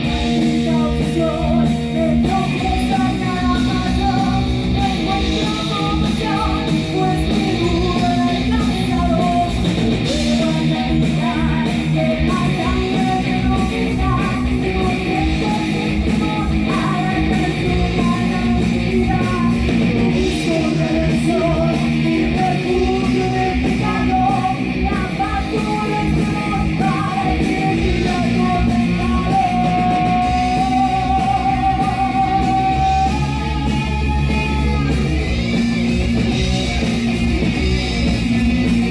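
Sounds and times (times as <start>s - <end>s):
heavy metal band playing live: 0.0s - 38.9s.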